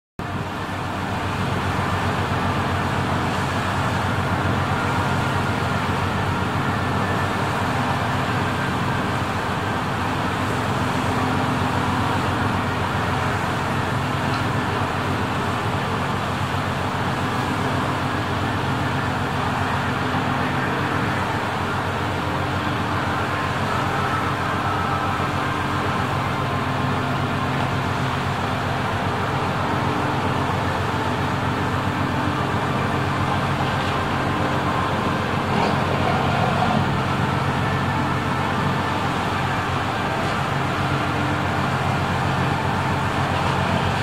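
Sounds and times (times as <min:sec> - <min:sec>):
boat engine humming: 0:00.2 - 0:44.0
rush of wind and water: 0:00.2 - 0:44.0.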